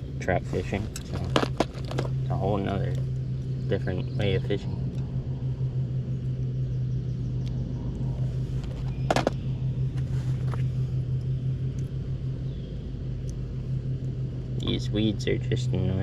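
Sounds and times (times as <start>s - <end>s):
low mechanical hum with rumble: 0.0s - 16.0s.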